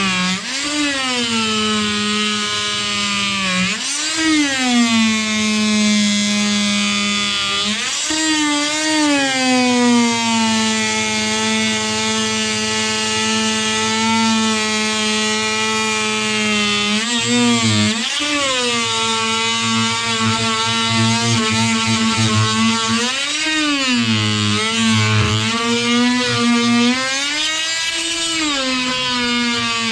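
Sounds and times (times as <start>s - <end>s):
power tool motor running: 0.0s - 29.9s.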